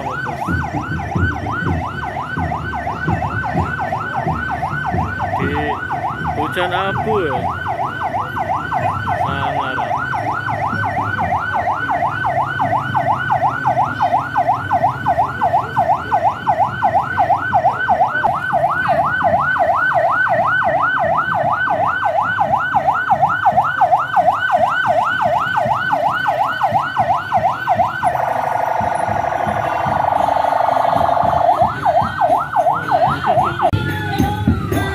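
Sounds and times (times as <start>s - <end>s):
electronic siren yelping: 0.0s - 33.8s.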